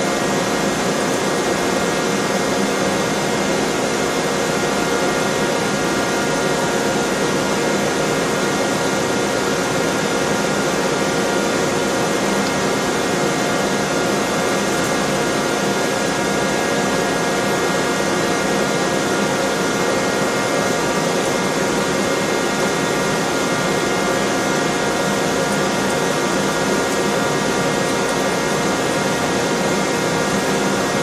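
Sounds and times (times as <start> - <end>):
machine hum and hiss: 0.0 - 31.0.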